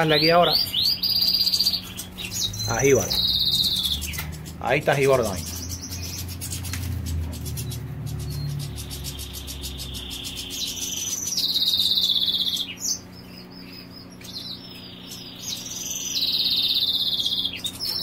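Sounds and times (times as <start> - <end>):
finches singing trills and chirps: 0.0 - 18.0.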